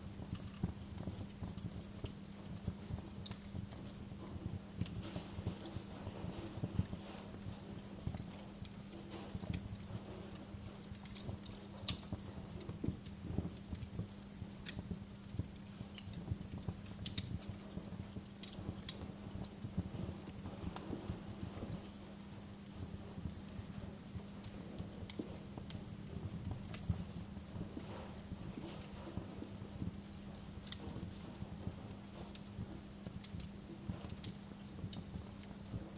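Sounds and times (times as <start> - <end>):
steady low hum: 0.0 - 35.9
wood fire crackling and popping: 0.0 - 35.9.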